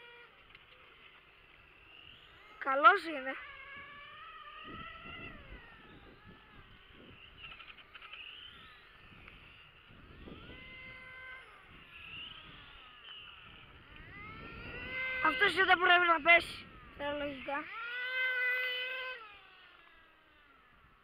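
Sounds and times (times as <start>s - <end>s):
faint whine of toy motorcycles: 0.0s - 21.0s.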